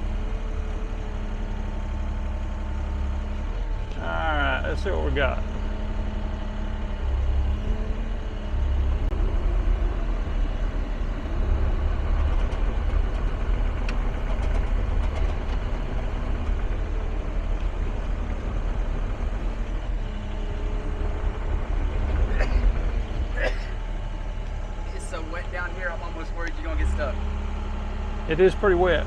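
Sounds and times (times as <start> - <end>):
excavator diesel engine rumbling: 0.0 - 29.0.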